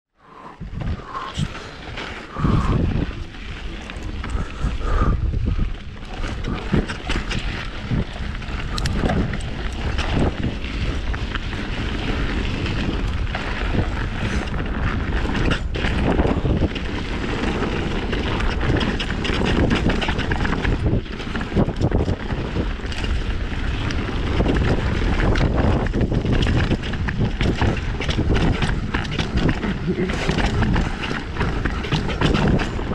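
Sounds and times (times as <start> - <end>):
wind buffeting microphone: 0.5 - 32.9
bike rattling over rocks: 0.6 - 32.9.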